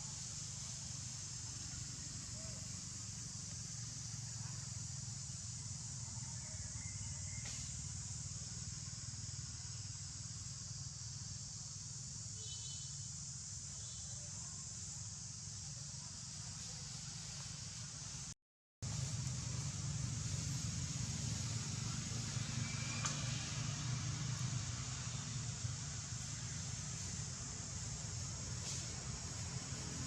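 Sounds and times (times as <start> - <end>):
high hiss: 0.0 - 30.0.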